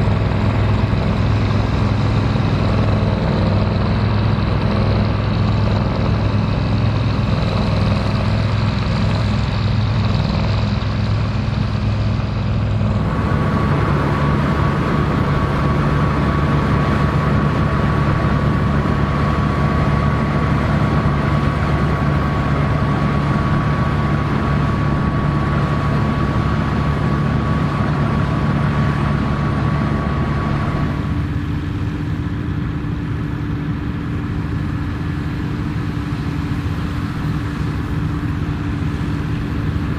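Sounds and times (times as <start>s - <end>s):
combine harvester running: 0.0s - 39.9s
steady high whine: 0.0s - 39.9s.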